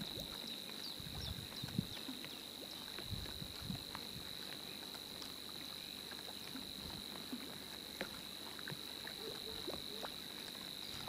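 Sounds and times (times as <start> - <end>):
raindrops ticking on boat and water: 0.0 - 11.0.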